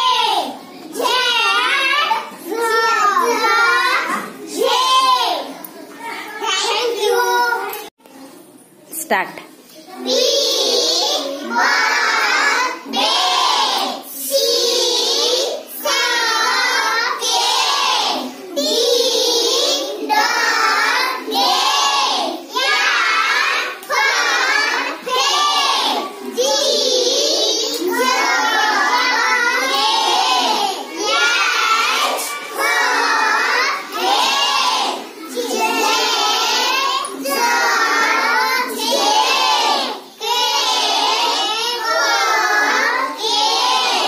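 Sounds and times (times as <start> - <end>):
children chanting in unison: 0.0 - 7.7, 9.9 - 44.0.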